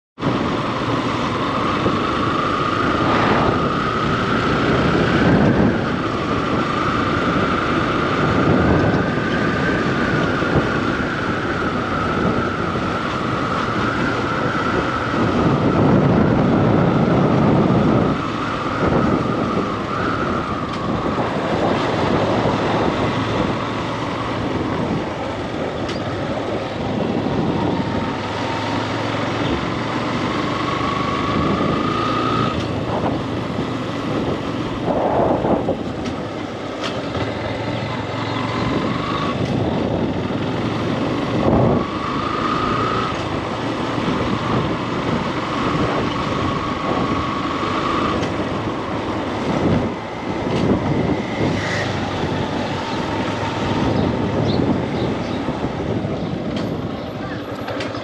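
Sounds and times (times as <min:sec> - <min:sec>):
motorcycle engine whine: 0:00.2 - 0:58.0
wind on microphone: 0:00.2 - 0:58.0.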